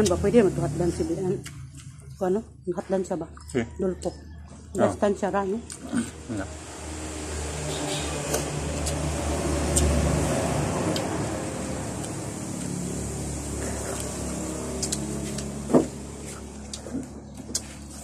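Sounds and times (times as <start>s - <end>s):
passing vehicle engine hum: 0.0s - 18.0s.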